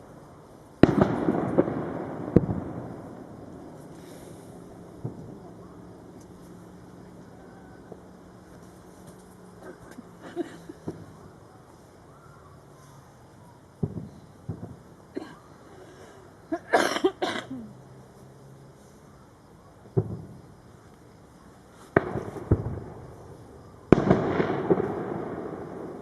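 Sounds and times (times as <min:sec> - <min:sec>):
distant fireworks booming: 0:00.0 - 0:16.7, 0:19.8 - 0:20.8, 0:21.9 - 0:26.0.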